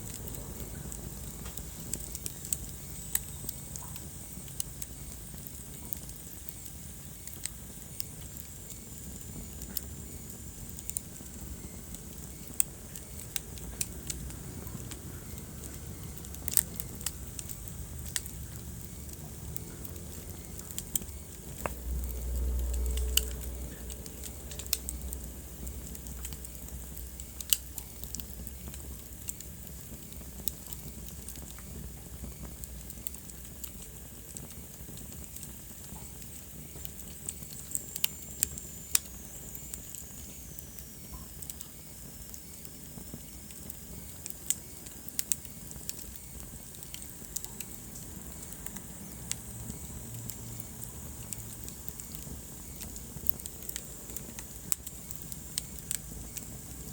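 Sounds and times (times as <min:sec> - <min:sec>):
low fire rumble: 0:00.0 - 0:56.9
wood fire crackling and popping: 0:00.0 - 0:56.9.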